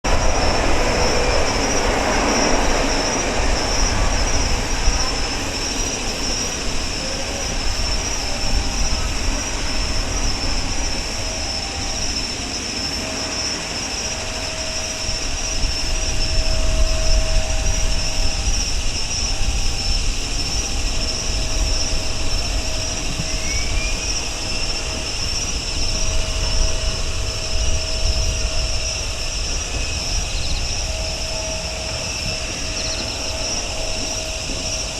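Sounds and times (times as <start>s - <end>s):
high engine whine: 0.0s - 34.9s
jet engines rumbling: 0.0s - 34.9s.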